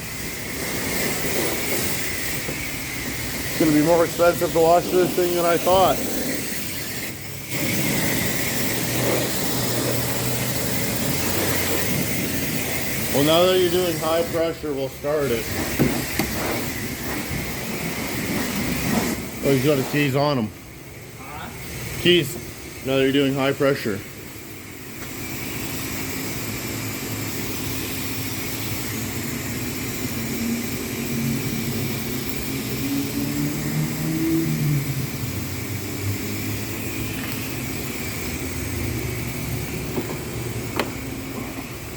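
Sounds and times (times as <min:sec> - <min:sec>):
pressure washer spraying water: 0:00.0 - 0:41.9
steady low hum: 0:00.0 - 0:41.9.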